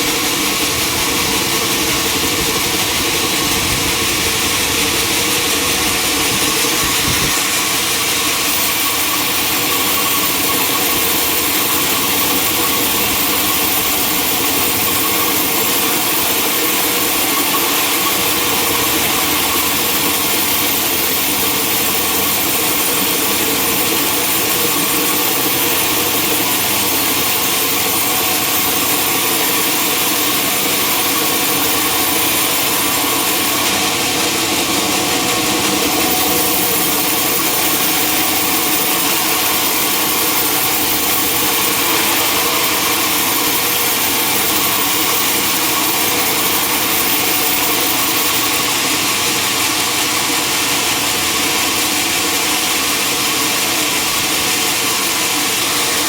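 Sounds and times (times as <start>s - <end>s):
sawmill machine hum: 0.0s - 56.0s.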